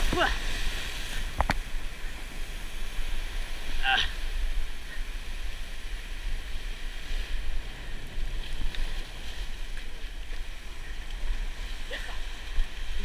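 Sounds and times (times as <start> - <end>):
ocean surf on rocks: 0.0 - 13.0
wind buffeting microphone: 0.0 - 13.0.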